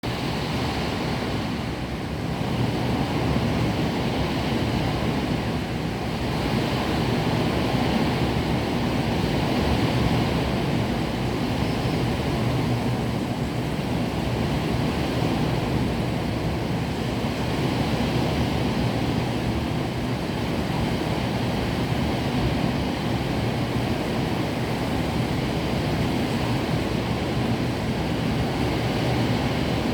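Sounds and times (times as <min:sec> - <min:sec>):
heavy rain in strong wind: 0:00.0 - 0:29.9.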